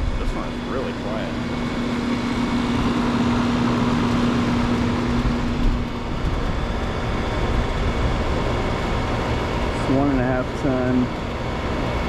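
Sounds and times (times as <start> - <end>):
air conditioner condenser running: 0.0 - 12.0.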